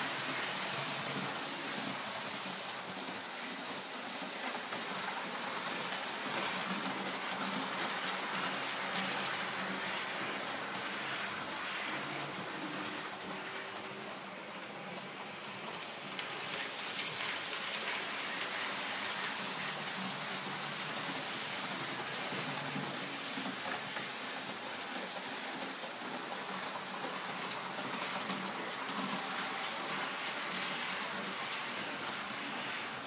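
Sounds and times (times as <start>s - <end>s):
model train wheels on rails: 0.0s - 33.0s.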